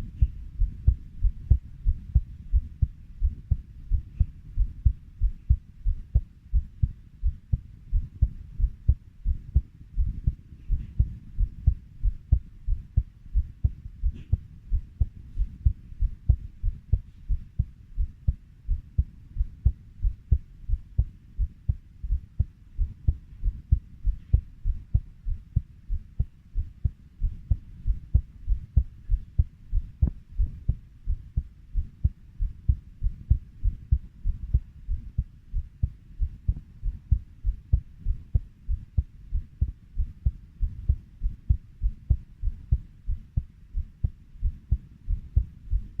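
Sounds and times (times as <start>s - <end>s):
heartbeat thumps: 0.0s - 46.0s.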